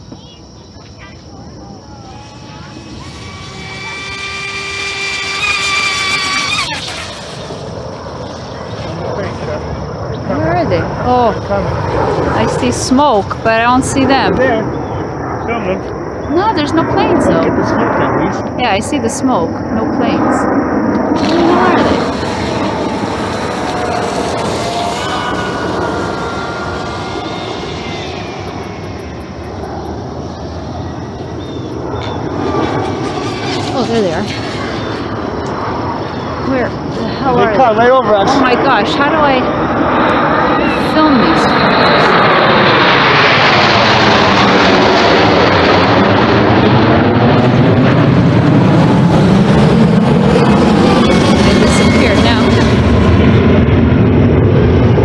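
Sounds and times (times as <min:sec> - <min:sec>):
jet aircraft passing overhead: 0:00.0 - 0:55.0.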